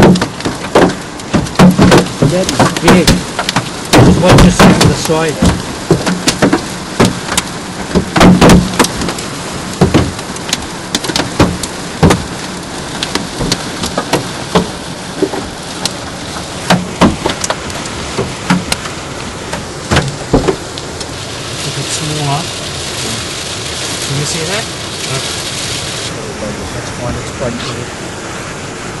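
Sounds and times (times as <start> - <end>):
hailstones striking a car: 0.0 - 26.0
heavy rain and hail rushing: 0.0 - 29.0.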